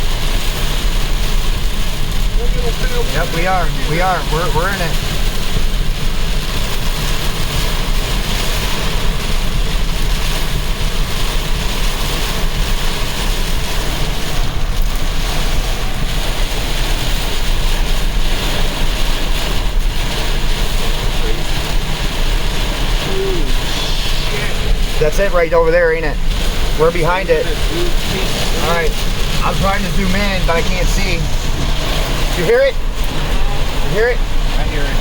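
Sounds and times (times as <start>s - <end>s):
car road noise: 0.0s - 35.0s
storm wind rushing: 4.9s - 35.0s.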